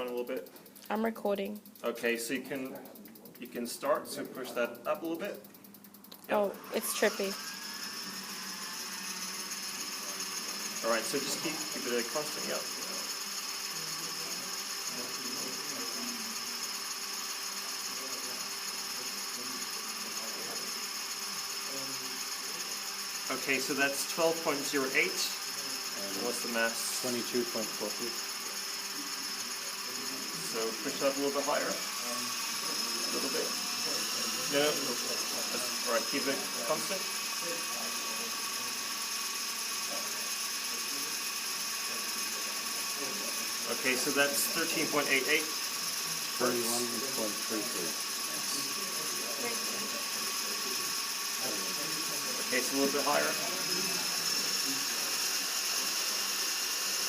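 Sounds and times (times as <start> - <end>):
model helicopter rotor whirring: 0.0 - 57.0.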